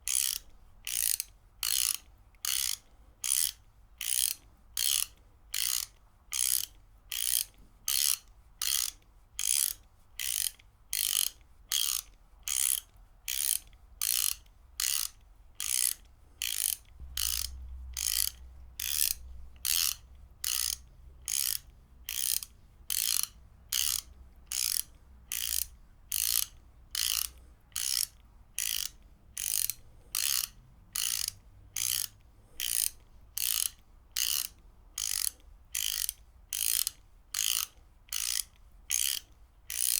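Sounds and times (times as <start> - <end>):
ratchet wrench clicking: 0.1 - 39.9.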